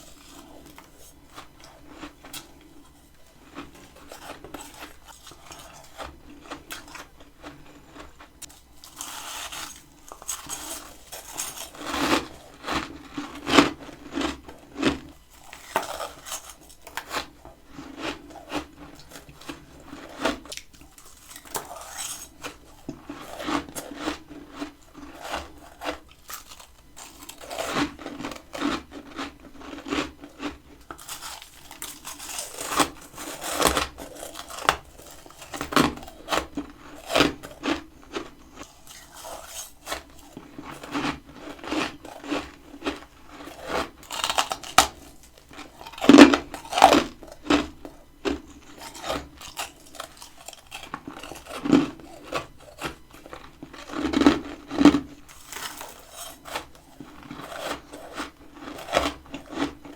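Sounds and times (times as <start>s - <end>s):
chewing crunchy frost: 0.0s - 59.9s.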